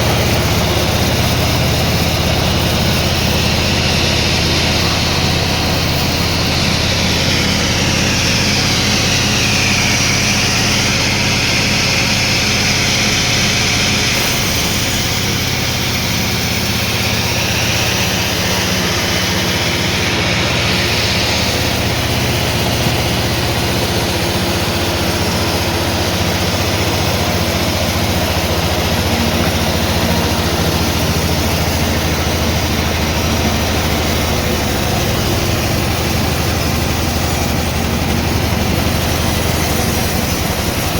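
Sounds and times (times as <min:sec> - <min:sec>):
motor hum: 0:00.0 - 0:40.9
saw blade whine: 0:00.0 - 0:40.9.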